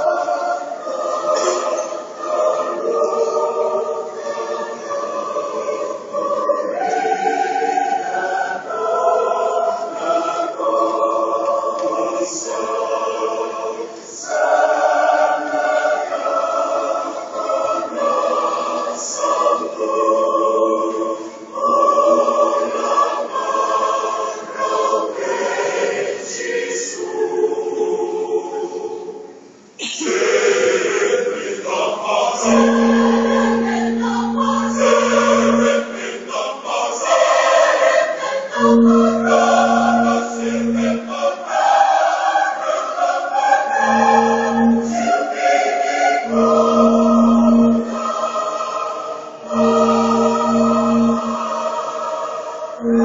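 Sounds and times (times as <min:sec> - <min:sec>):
massed choir singing chords: 0:00.0 - 0:53.0.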